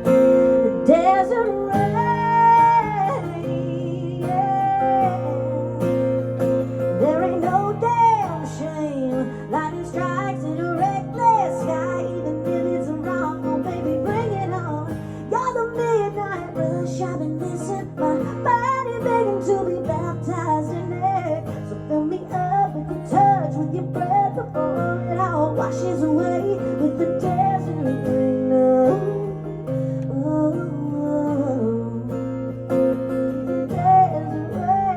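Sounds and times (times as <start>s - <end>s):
strummed acoustic guitar: 0.0s - 34.9s.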